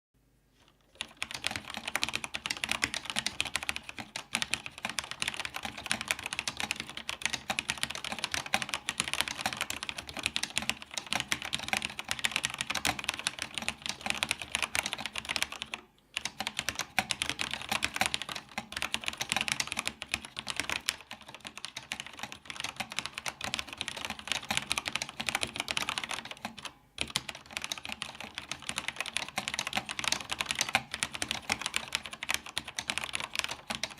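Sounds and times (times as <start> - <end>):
fast mechanical keyboard typing: 0.9 - 33.9.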